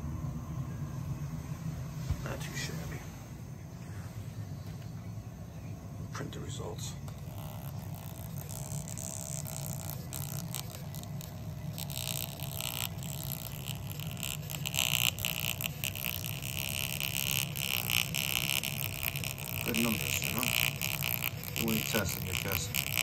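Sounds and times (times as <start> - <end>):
steady low hum: 0.0 - 23.0
thermal printer whirring: 0.0 - 23.0.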